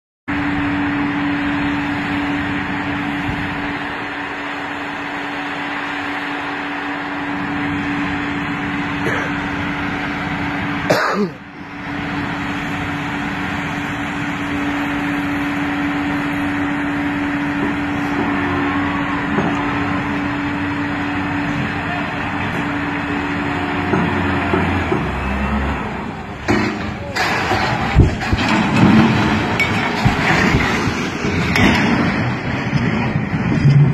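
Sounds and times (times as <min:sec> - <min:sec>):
construction site noise: 0:00.3 - 0:33.9
diesel engine humming: 0:00.3 - 0:33.9.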